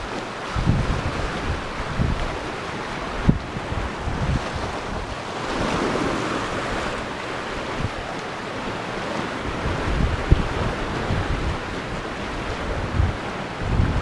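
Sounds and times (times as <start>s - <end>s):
sea surf washing over rocks: 0.0s - 14.0s
wind buffeting microphone: 0.0s - 14.0s.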